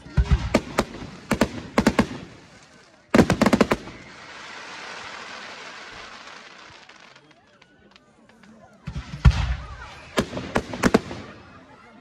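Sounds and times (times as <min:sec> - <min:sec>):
fireworks bangs: 0:00.0 - 0:07.2, 0:08.8 - 0:11.8.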